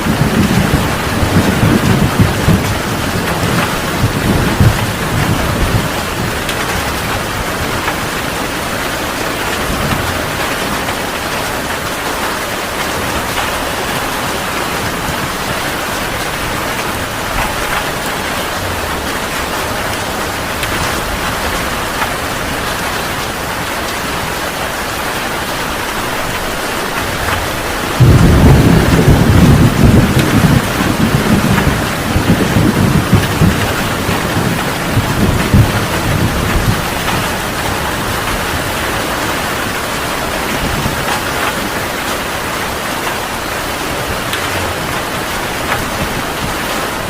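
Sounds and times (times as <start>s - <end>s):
heavy rain: 0.0s - 47.0s
thunder rumbling: 0.0s - 47.0s.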